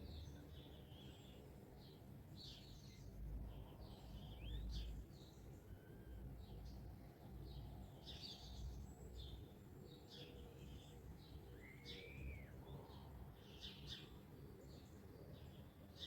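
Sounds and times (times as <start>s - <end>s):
faint bird chirps: 2.4s - 9.4s, 10.0s - 16.0s.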